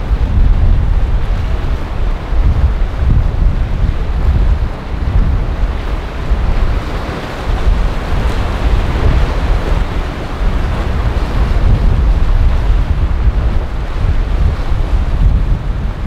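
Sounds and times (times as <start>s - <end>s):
waves washing: 0.0s - 16.0s
wind buffeting microphone: 0.0s - 16.0s.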